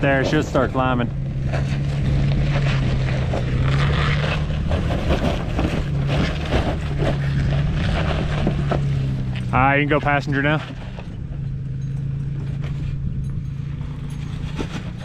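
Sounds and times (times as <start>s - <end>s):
suv engine at low revs: 0.0s - 15.0s.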